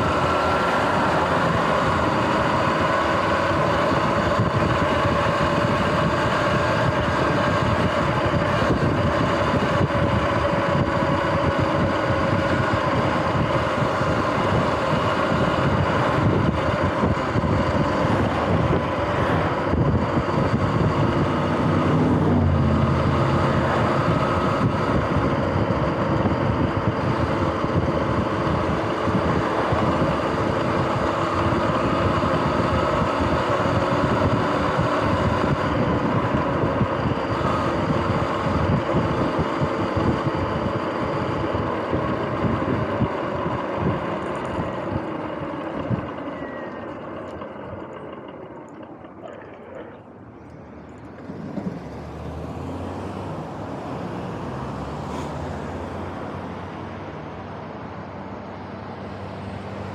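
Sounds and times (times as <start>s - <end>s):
electric dirt bike whine: 0.0s - 59.9s.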